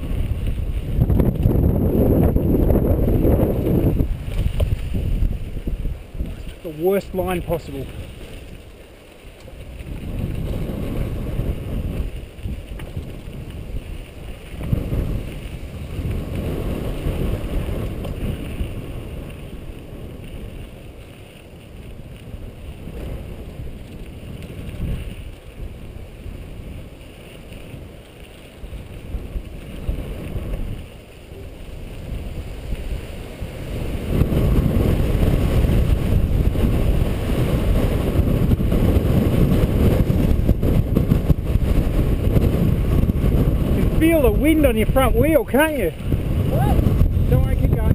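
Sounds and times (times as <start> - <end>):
bike tyres rumbling on dirt: 0.0 - 47.9
wind buffeting microphone: 0.0 - 47.9.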